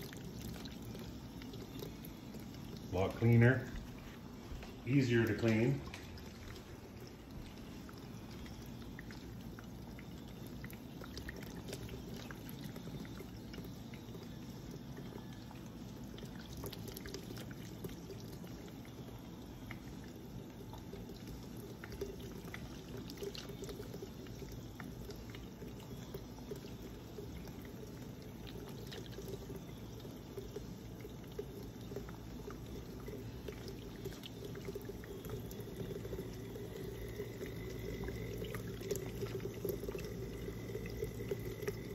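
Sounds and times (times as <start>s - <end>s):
low steady hum: 0.0s - 41.9s
water trickling and splashing: 0.0s - 41.9s.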